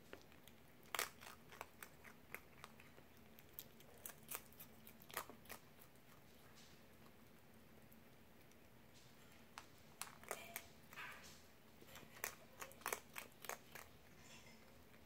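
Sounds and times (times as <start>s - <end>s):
fox crunching dry kibble: 0.0s - 14.2s.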